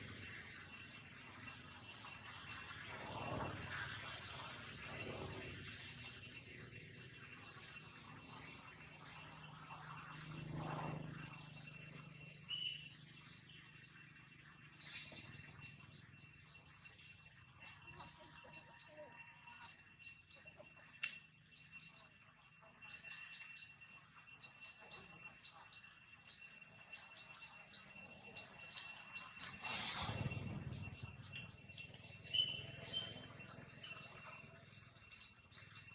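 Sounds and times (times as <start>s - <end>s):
faint high drone: 0.0s - 35.9s.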